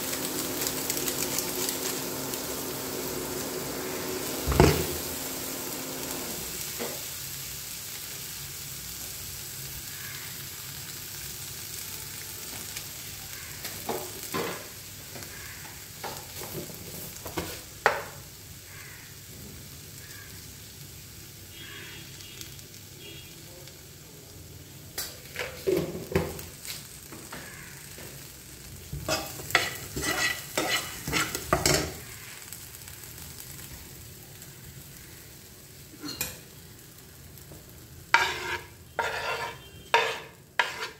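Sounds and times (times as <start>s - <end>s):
corn kernels sizzling in a pan: 0.0s - 40.9s.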